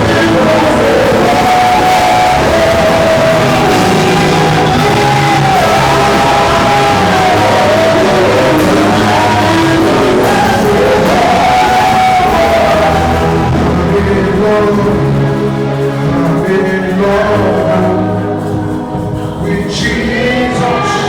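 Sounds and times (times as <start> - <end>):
band playing with bass: 0.0 - 21.0
person singing: 0.0 - 21.0.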